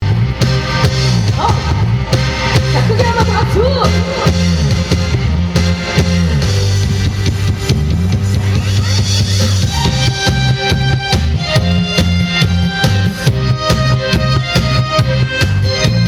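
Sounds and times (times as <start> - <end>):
repeating bass line: 0.0 - 16.0.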